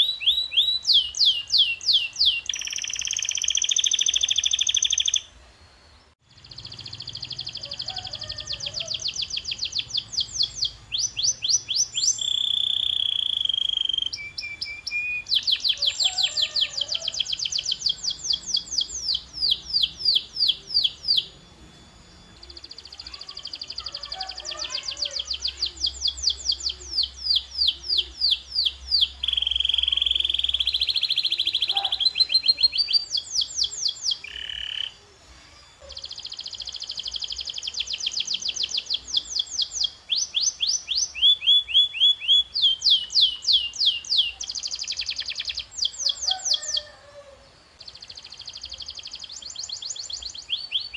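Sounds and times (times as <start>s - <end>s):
canary singing: 0.0s - 5.4s, 6.2s - 50.9s.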